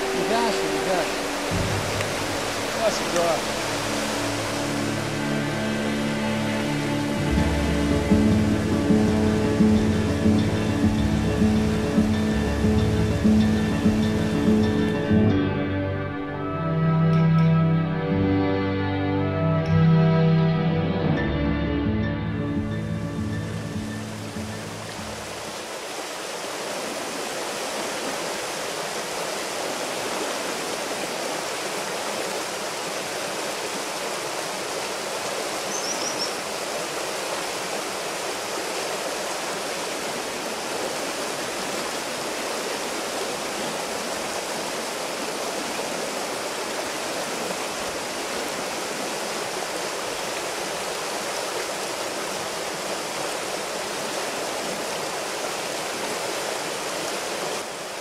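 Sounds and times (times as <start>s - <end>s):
mountain stream rushing over rocks: 0.0s - 15.4s, 22.9s - 58.0s.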